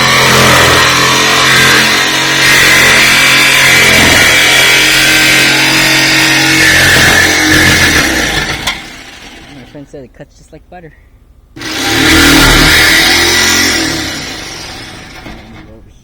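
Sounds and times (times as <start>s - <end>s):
jigsaw cutting sheet steel: 0.0s - 9.7s, 11.6s - 15.8s.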